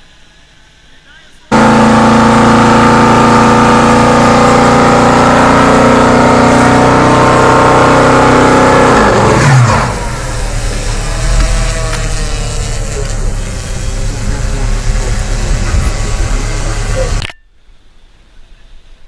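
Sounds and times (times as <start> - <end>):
car engine revving: 1.5 - 17.3.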